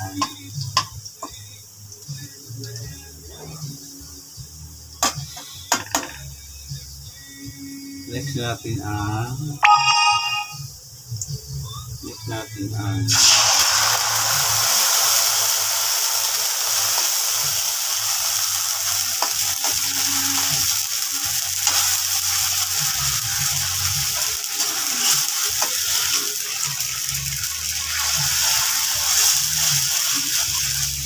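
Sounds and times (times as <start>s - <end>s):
fish sizzling in hot oil: 0.0s - 8.1s, 9.6s - 31.0s.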